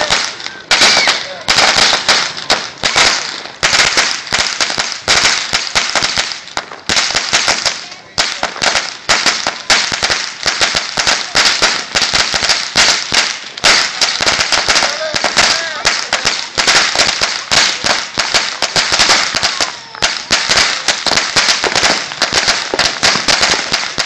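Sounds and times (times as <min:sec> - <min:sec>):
firecrackers banging: 0:00.0 - 0:24.0.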